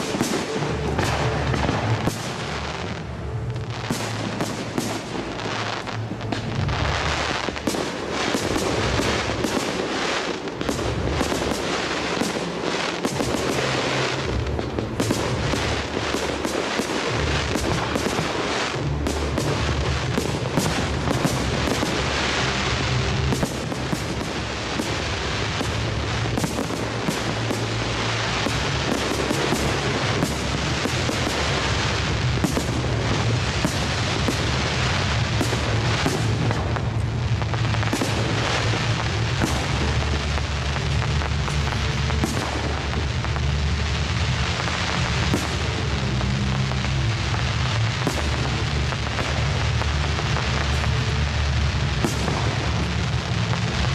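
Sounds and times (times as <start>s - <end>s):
fireworks bursting: 0.0s - 53.9s
music playing: 0.0s - 53.9s.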